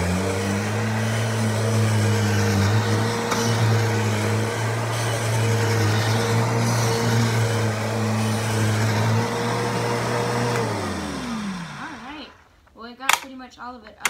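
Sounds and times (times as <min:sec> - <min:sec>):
vacuum cleaner running: 0:00.0 - 0:12.5.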